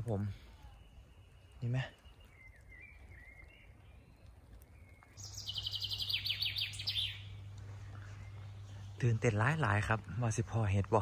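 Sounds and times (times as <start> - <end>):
low steady hum: 0.0 - 11.0
songbird trill: 0.0 - 11.0.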